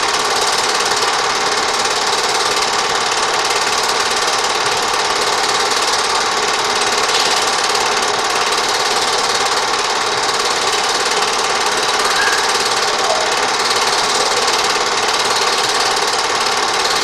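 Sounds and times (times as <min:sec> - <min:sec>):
film projector rattling: 0:00.0 - 0:17.0.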